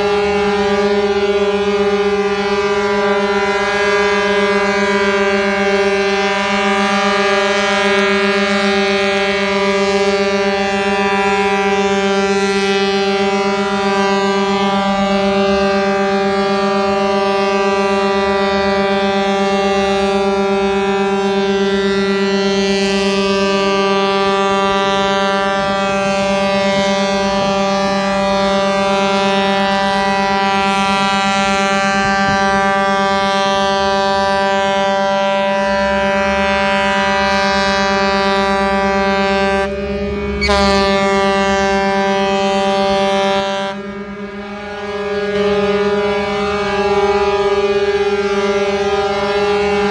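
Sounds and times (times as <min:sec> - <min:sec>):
ship's horn long low blast: 0:00.0 - 0:49.9.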